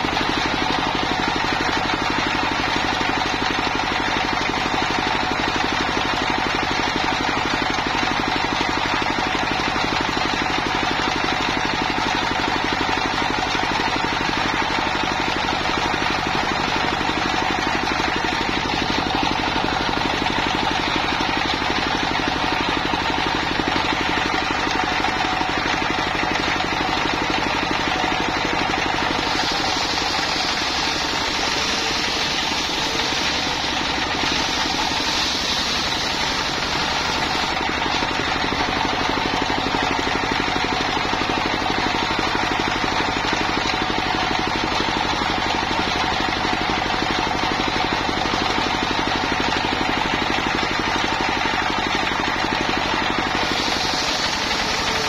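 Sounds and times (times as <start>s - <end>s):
circular saw cutting log: 0.0s - 55.0s
diesel engine knocking: 0.0s - 55.0s.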